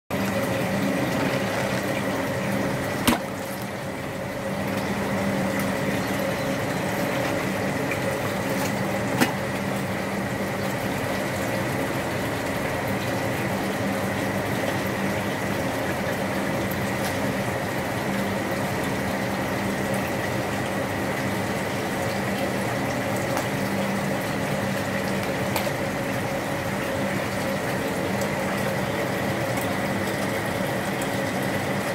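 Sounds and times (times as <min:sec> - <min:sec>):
water pump humming: 0:00.1 - 0:31.9
water running and trickling: 0:00.1 - 0:31.9.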